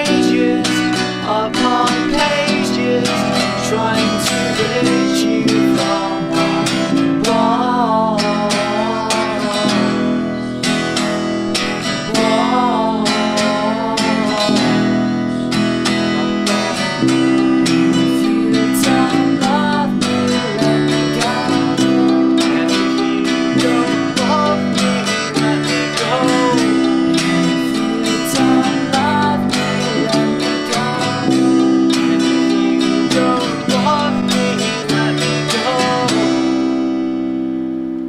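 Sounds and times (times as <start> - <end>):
wavering melody line: 0.0 - 37.9
strummed acoustic guitar: 0.0 - 38.0.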